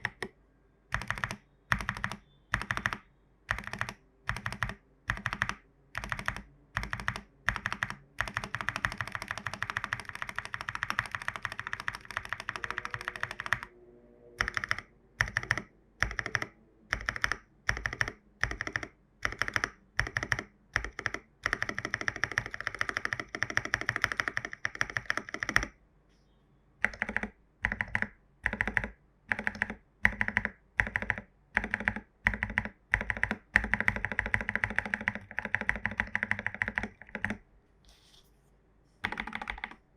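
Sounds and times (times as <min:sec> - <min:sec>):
mechanical keyboard keys pressed: 0:00.9 - 0:13.7, 0:14.4 - 0:25.7, 0:26.8 - 0:37.4, 0:39.0 - 0:39.8.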